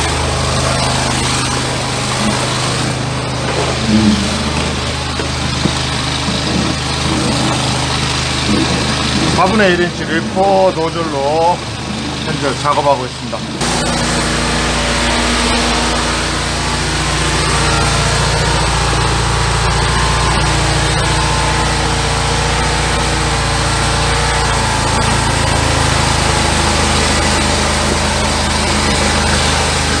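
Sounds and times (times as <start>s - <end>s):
drain jetter engine running: 0.0s - 30.0s.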